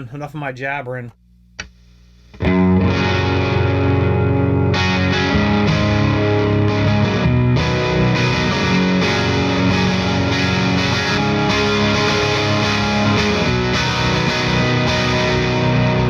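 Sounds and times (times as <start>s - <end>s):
overdriven electric guitar chords: 2.2s - 16.0s.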